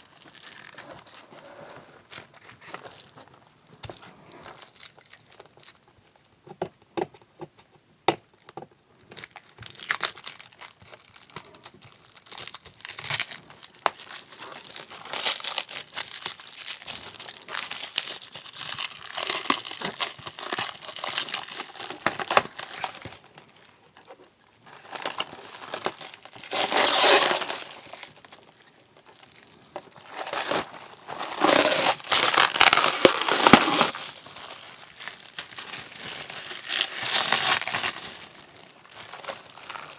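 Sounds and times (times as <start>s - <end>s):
plastic packaging crinkling and tearing: 0.0s - 6.4s, 8.2s - 39.9s.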